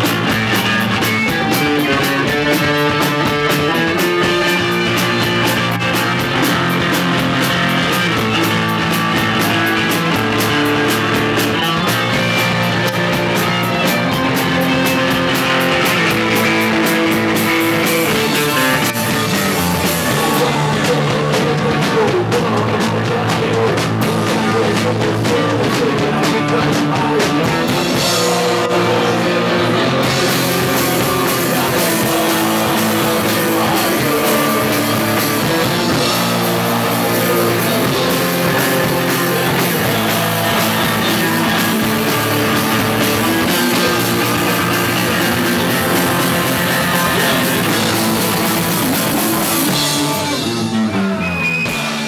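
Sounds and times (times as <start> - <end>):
distorted electric guitars: 0.0 - 52.0
drum kit: 0.0 - 52.0.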